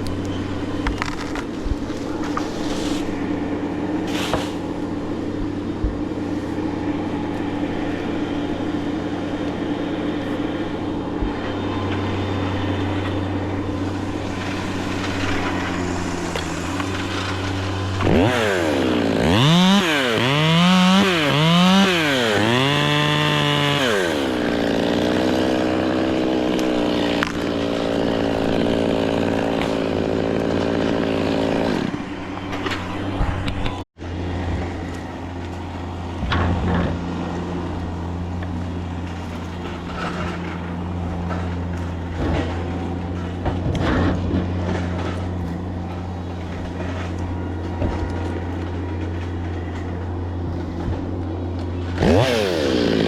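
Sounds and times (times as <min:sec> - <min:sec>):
chainsaw engine revving: 0:00.0 - 0:53.0.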